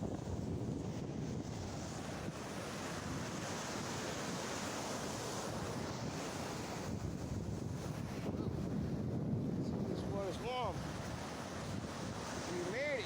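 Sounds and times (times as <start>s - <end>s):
ocean waves breaking: 0.0s - 13.0s
wind noise on microphone: 0.0s - 13.0s.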